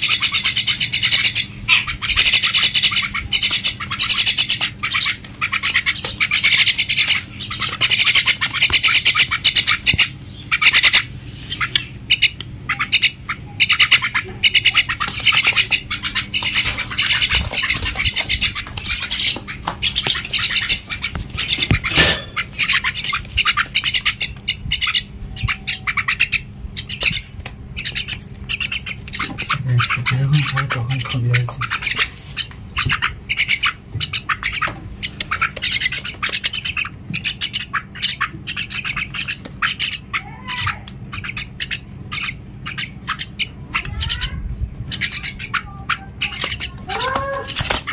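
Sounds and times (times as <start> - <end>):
myna squawking and chattering: 0.0 - 47.9.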